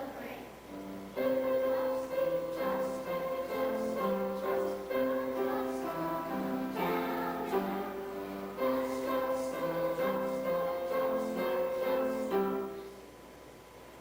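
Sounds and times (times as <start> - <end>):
choir singing with instruments: 1.1 - 13.0.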